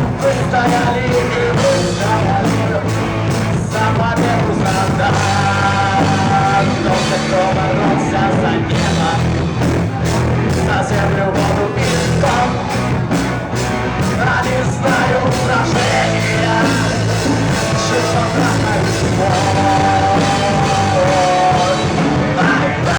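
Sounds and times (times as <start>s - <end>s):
bass guitar: 0.0s - 22.9s
distorted electric guitars: 0.0s - 22.9s
drum kit: 0.0s - 22.9s
held singing or guitar melody: 0.0s - 22.9s.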